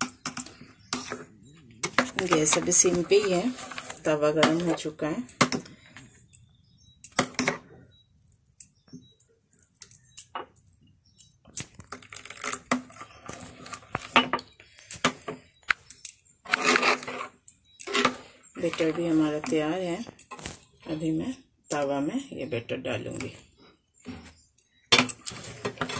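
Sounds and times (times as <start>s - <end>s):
metal spoon stirring batter in bowl: 0.0s - 20.9s.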